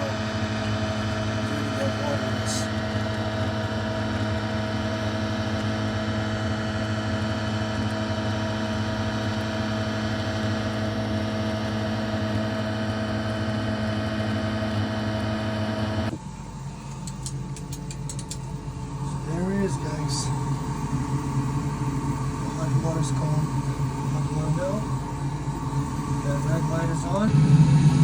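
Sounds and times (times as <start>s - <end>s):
pump humming: 0.0s - 15.4s, 16.1s - 28.0s.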